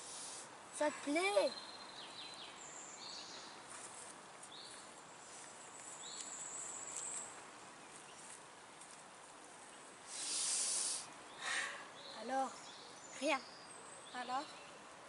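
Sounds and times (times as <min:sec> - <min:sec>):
quiet outdoor hiss: 0:00.0 - 0:15.0.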